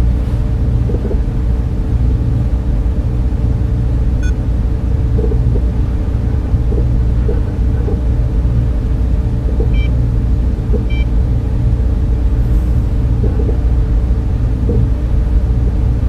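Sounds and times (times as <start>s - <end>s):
server fans humming: 0.0s - 16.0s.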